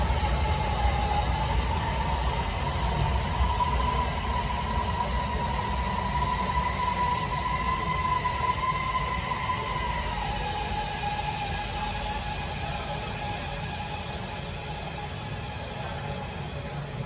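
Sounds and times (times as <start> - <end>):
subway train running past: 0.0 - 17.0.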